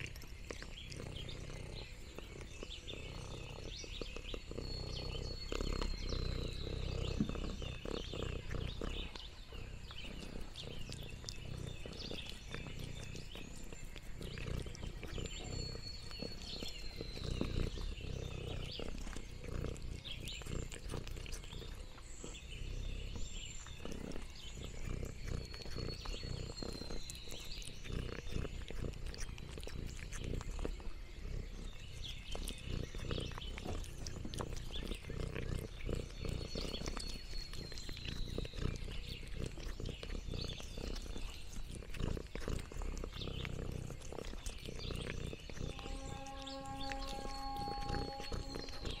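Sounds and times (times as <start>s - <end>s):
cat chewing and smacking: 0.0s - 49.0s.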